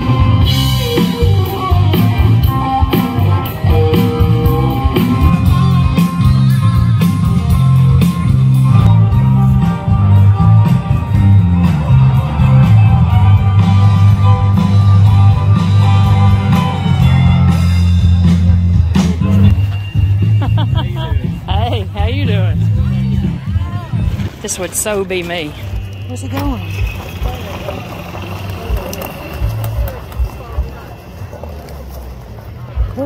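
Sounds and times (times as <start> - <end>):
live country band playing: 0.0 - 33.0.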